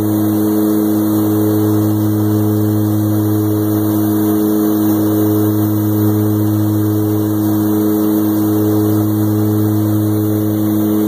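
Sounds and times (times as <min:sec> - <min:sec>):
aircraft engine drone in cabin: 0:00.0 - 0:11.0.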